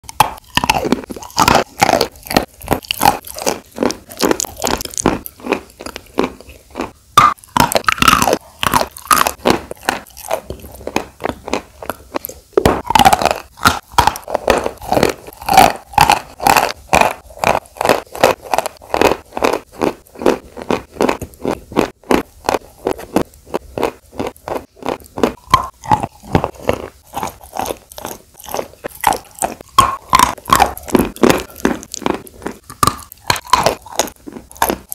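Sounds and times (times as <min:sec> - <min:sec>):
chalk sticks crunching when chewed: 0:00.0 - 0:34.9.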